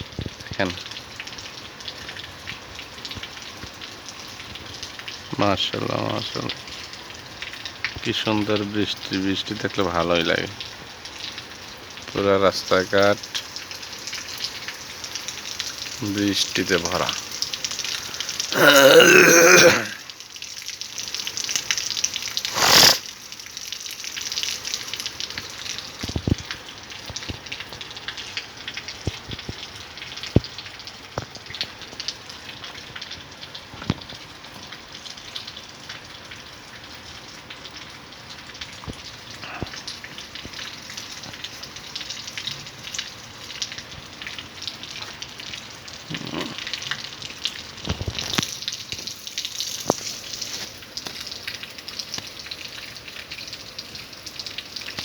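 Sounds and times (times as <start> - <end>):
rain splashing on wet ground: 0.0 - 55.0.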